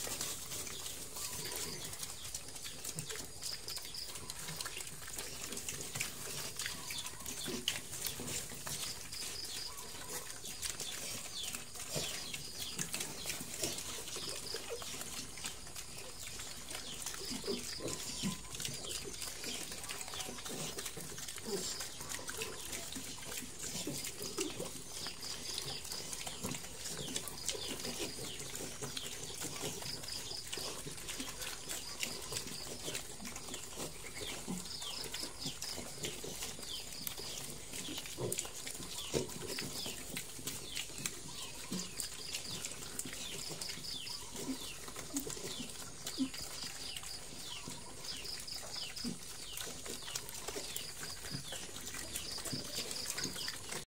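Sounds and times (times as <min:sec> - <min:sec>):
piglets grunting softly: 0:00.0 - 0:53.8
piglets crunching and snuffling: 0:00.0 - 0:53.9.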